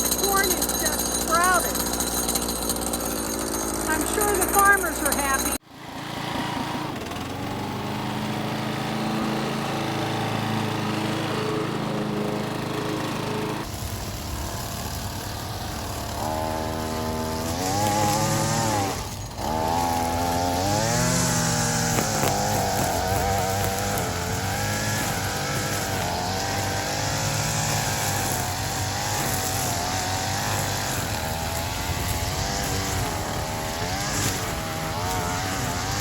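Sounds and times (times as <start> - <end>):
string trimmer engine revving: 0.0 - 36.0.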